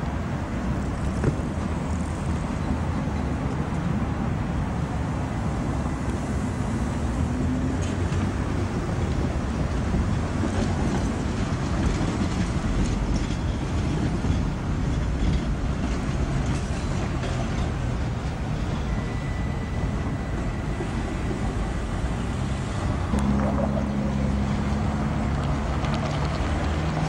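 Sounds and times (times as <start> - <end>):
tram rumbling past: 0.0 - 27.0.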